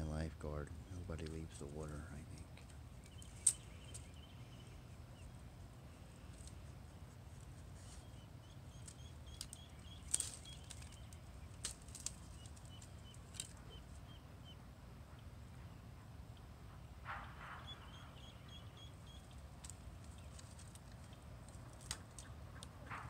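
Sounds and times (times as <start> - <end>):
high peeping calls: 0.9 - 16.5, 17.3 - 23.0.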